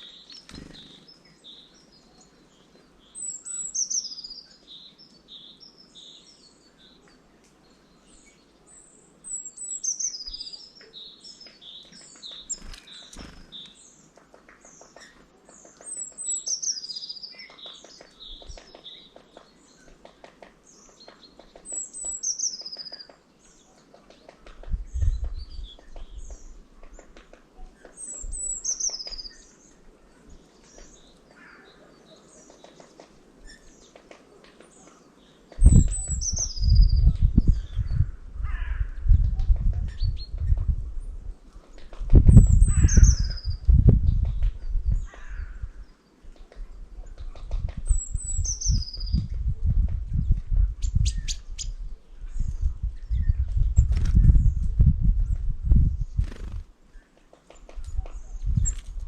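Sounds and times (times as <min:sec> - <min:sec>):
small songbirds singing and chirping: 0:00.0 - 0:59.0.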